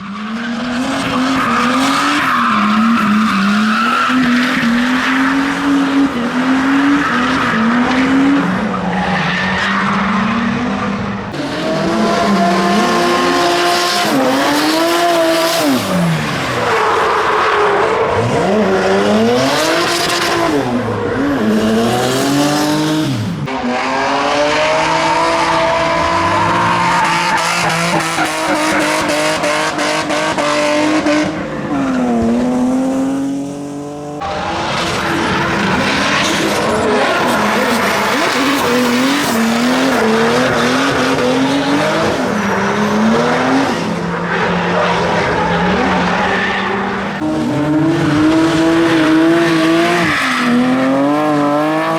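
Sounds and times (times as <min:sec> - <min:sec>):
car engines revving: 0:00.0 - 0:51.9
tyres squealing and skidding: 0:00.0 - 0:51.9.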